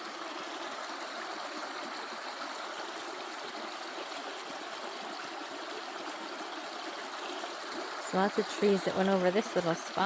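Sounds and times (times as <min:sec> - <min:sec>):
creek babbling over rocks: 0:00.0 - 0:10.0.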